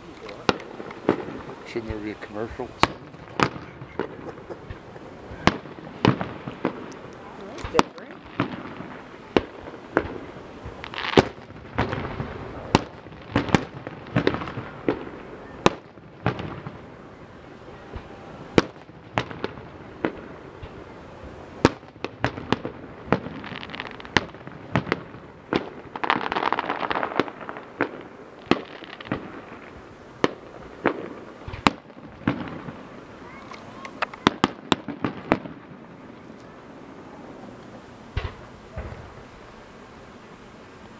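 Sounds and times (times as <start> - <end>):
continuous noisy background: 0.0 - 40.9
fireworks bursting with sharp bangs: 0.0 - 40.9.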